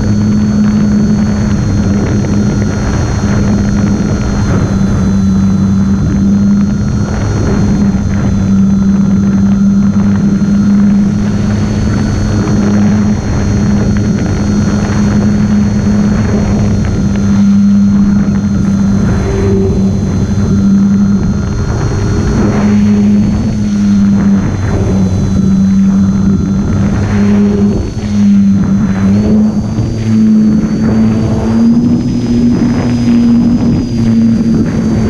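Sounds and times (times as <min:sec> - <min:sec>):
electric motor and propeller: 0:00.0 - 0:35.0
wind rushing over microphone: 0:00.0 - 0:35.0.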